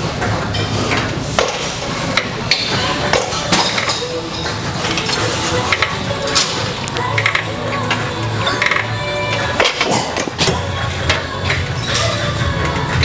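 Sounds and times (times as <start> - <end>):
metal clanks of gym equipment: 0.1 - 13.0.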